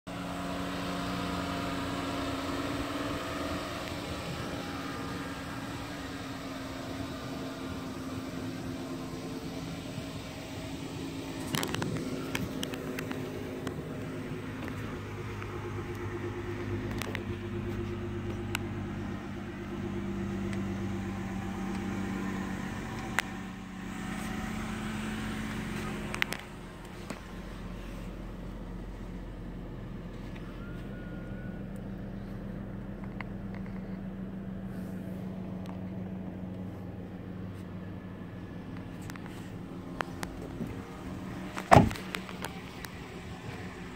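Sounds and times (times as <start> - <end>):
vehicle engine idling: 0.1 - 43.9.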